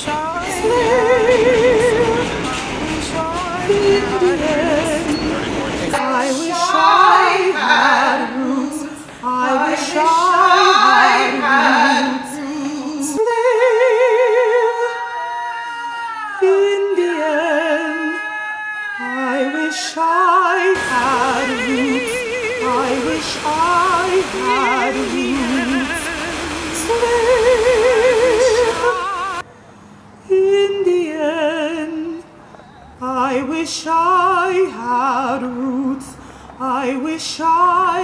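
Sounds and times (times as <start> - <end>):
woman singing with vibrato: 0.0 - 29.5, 30.2 - 32.3, 33.0 - 38.0.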